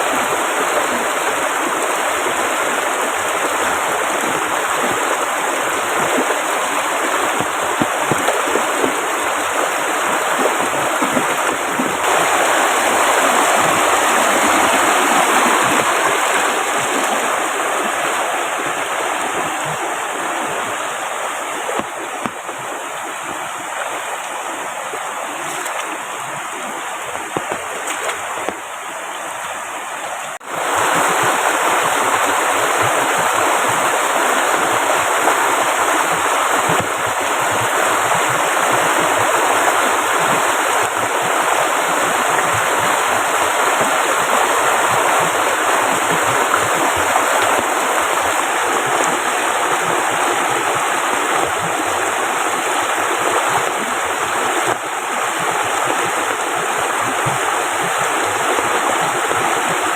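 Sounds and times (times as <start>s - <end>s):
heavy rain: 0.0s - 59.9s
river water rushing: 0.0s - 59.9s.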